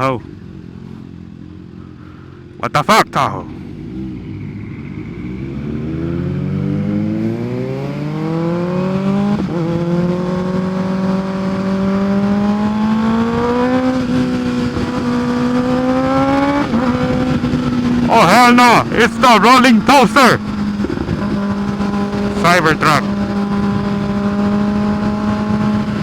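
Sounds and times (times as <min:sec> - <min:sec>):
motorcycle engine accelerating: 0:00.0 - 0:02.6, 0:03.2 - 0:26.0.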